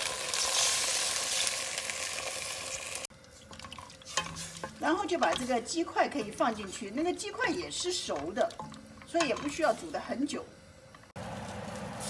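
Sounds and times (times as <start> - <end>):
water sizzling in hot pot: 0.0 - 10.6.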